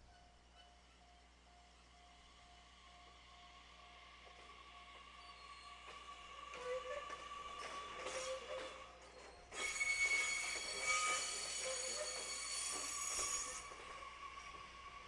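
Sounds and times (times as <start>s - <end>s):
train wheels squealing on track: 0.0s - 2.2s, 3.0s - 15.0s.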